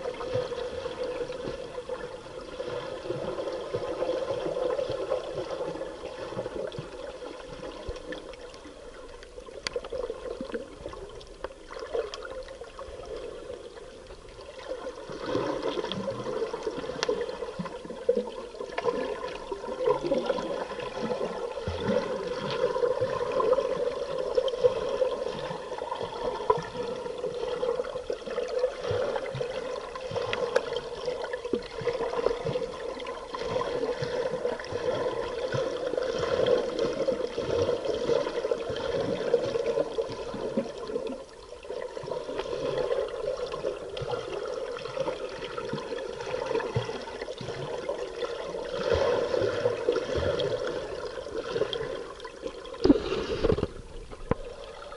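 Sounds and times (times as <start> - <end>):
bubbling and gurgling: 0.0 - 54.9
underwater water rushing: 0.0 - 54.9.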